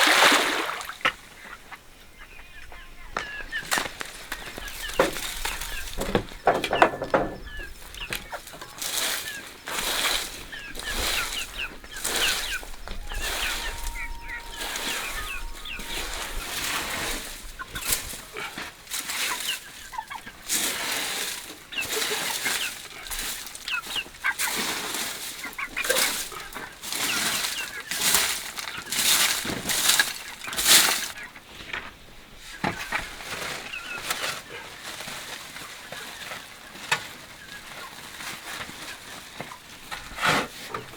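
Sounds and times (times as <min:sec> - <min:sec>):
chickens clucking and chirping: 0:01.1 - 0:31.4, 0:32.3 - 0:40.9.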